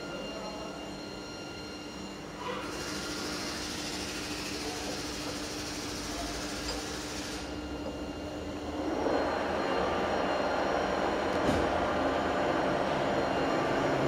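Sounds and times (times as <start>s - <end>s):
lathe mechanical hum: 0.0s - 14.0s.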